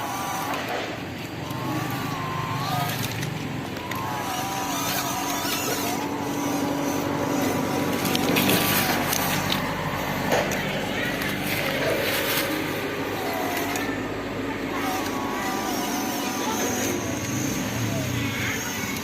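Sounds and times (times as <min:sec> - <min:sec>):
rc truck motor whining: 0:00.0 - 0:19.0.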